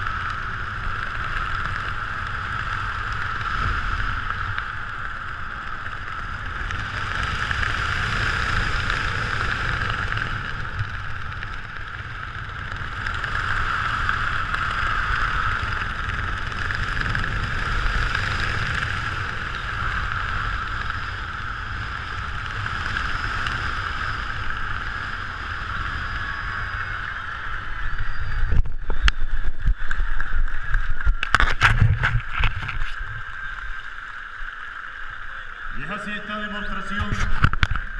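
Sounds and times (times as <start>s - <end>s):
wind rushing over microphone: 0.0s - 35.1s, 35.7s - 37.9s.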